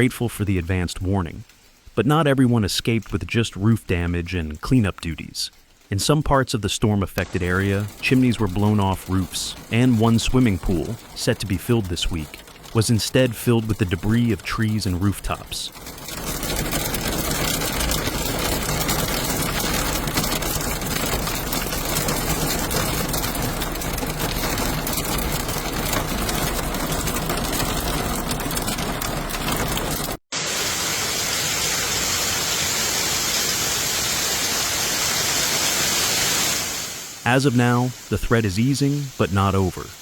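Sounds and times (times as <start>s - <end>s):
heavy rain pattering: 0.0s - 40.0s.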